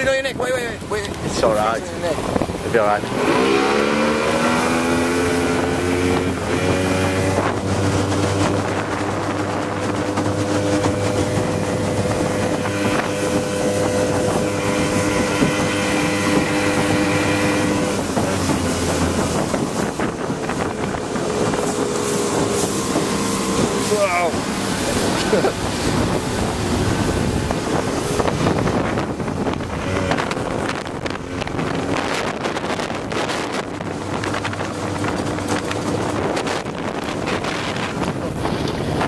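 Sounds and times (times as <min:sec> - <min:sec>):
outboard motor running: 0:00.0 - 0:39.0
water rushing past: 0:00.0 - 0:39.0
wind buffeting microphone: 0:00.0 - 0:39.0.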